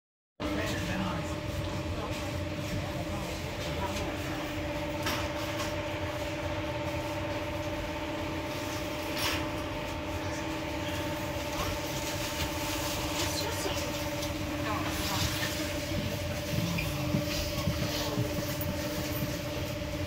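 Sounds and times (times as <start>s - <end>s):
low train rumble: 0.4s - 20.0s
steady electrical hum: 0.4s - 20.0s.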